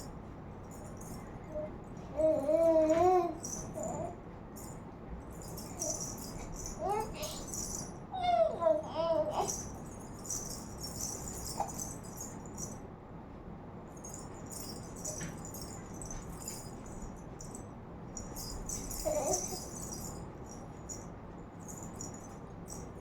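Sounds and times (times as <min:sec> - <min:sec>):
jingling rattle shaken: 0:00.0 - 0:08.0, 0:08.7 - 0:12.8, 0:13.9 - 0:23.0.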